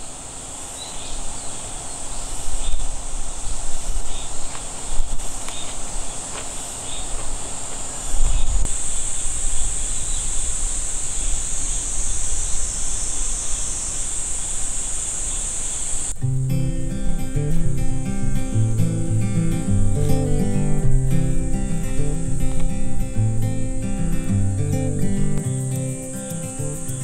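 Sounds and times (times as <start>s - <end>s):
wind rumbling on microphone: 0.0s - 27.0s
high-pitched insect buzz: 2.2s - 27.0s.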